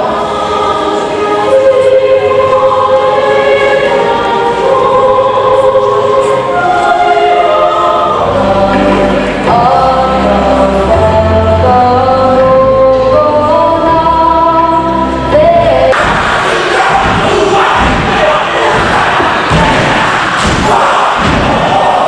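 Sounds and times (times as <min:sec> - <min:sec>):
choir singing anthem: 0:00.0 - 0:22.0.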